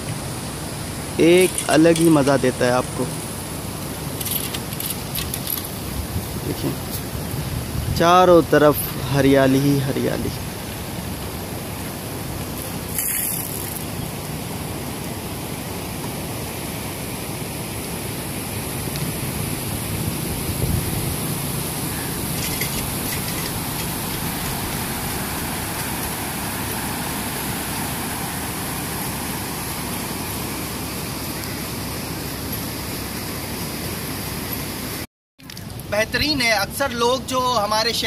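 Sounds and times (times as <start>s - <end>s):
water rushing: 0.0s - 38.0s.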